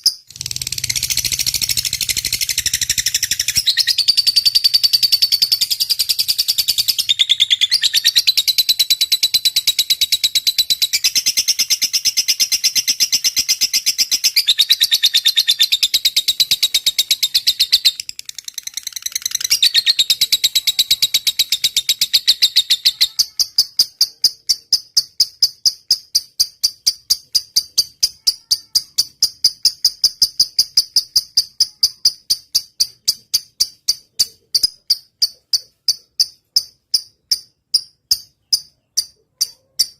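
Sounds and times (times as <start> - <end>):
lovebird chattering song: 0.0 - 39.9.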